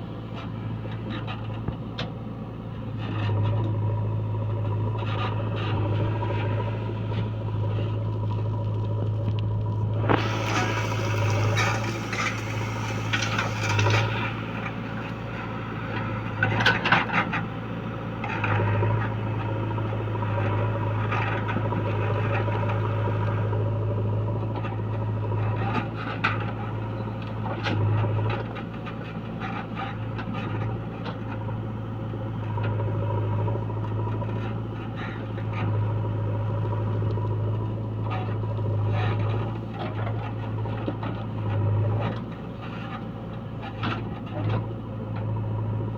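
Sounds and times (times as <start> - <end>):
heavy machinery diesel engine: 0.0 - 45.9.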